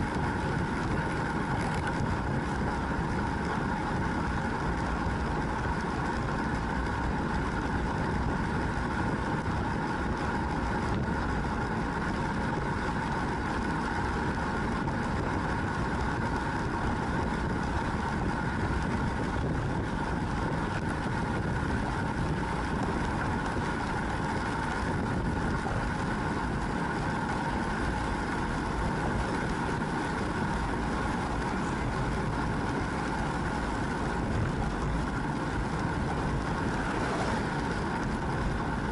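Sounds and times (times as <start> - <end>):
bicycle tyre noise: 0.0 - 38.9
faint steady hum: 0.0 - 38.9.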